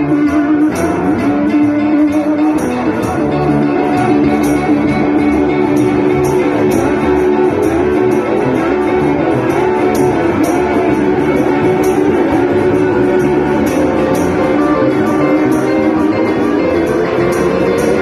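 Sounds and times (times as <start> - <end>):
blues band playing: 0.0 - 18.0.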